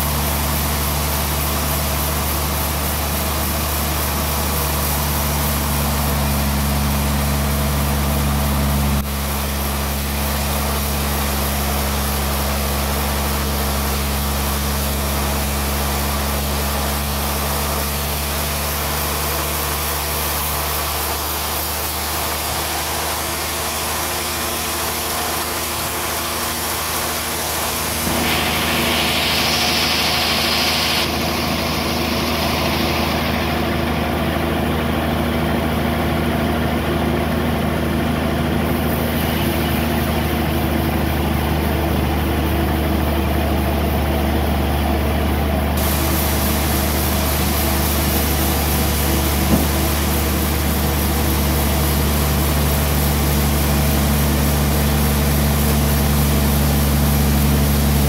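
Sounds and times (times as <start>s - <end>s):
sawmill engine hum: 0.0s - 58.0s.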